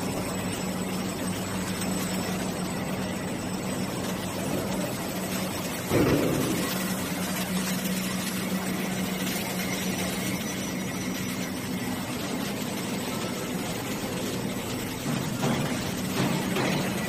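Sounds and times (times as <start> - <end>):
machine humming and rattling: 0.0 - 17.0.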